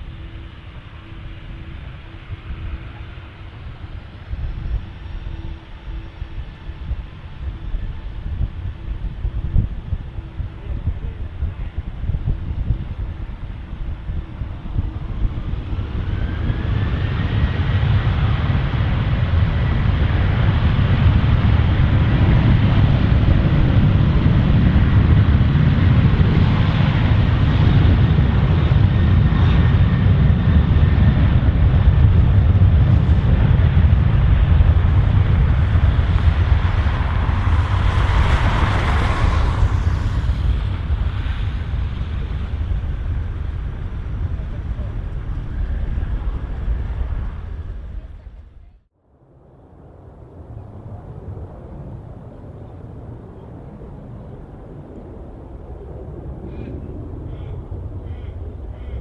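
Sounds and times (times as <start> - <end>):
jet engines at takeoff thrust: 0.0 - 59.0.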